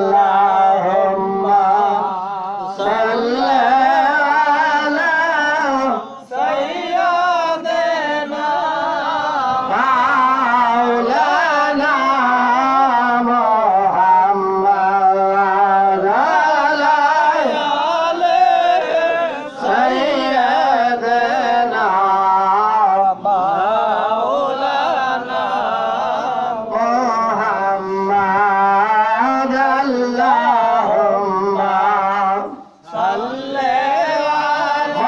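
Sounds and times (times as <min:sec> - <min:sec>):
man singing: 0:00.0 - 0:35.0.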